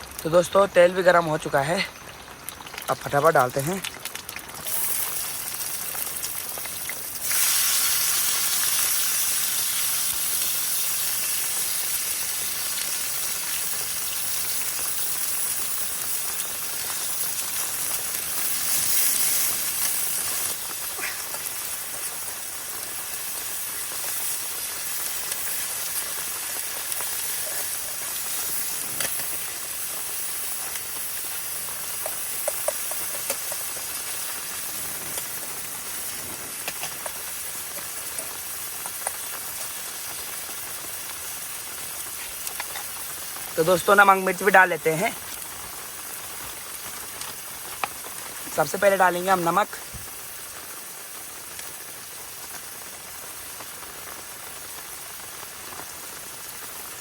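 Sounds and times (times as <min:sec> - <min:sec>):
ingredients sizzling in hot oil: 0:00.0 - 0:57.0.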